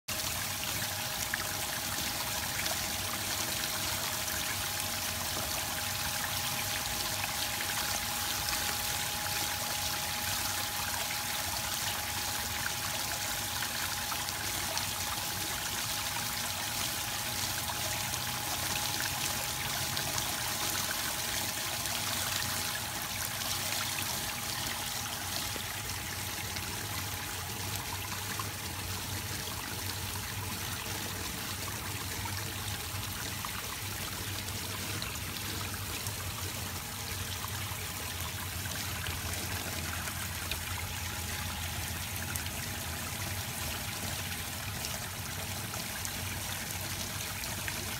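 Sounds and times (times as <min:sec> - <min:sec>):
faint steady hum: 0:00.1 - 0:47.9
water trickling: 0:00.1 - 0:47.9.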